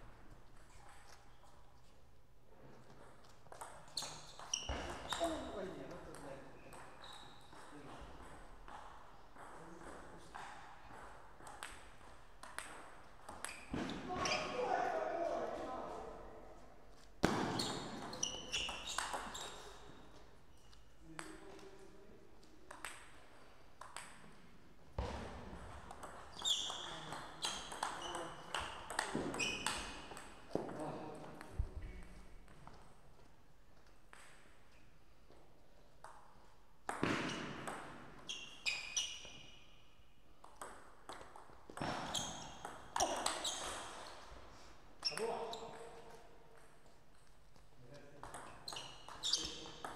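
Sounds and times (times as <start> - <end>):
table tennis rally: 0.0 - 2.0, 2.6 - 49.9.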